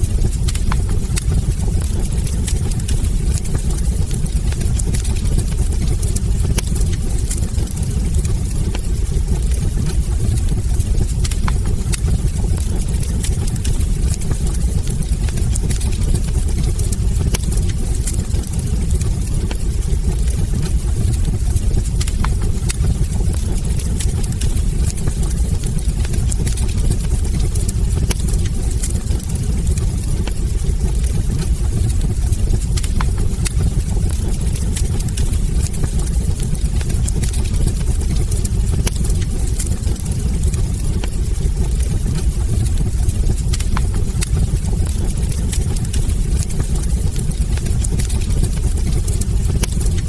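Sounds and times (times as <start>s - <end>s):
burning logs crackling and popping: 0.0s - 50.0s
low rumble of flames: 0.0s - 50.0s.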